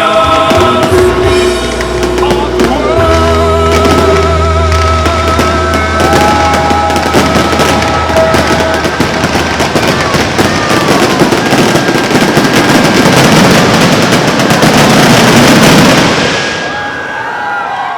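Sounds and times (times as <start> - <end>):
fireworks bursts and crackles: 0.0 - 17.6.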